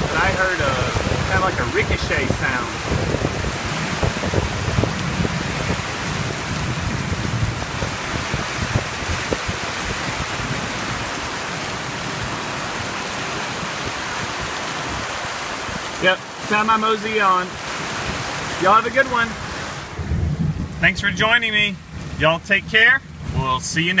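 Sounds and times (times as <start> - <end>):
low thunder rumble: 0.0 - 15.9, 19.3 - 24.0
heavy rain pouring: 0.0 - 24.0.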